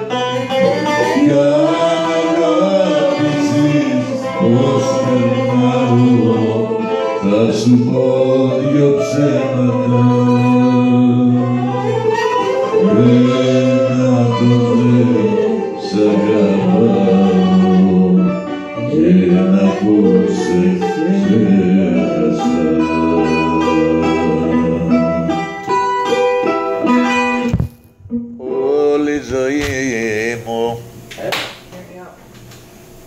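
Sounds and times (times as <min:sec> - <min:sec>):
man singing into microphone: 0:00.0 - 0:25.6, 0:28.3 - 0:30.9
plucked strings: 0:00.0 - 0:28.6.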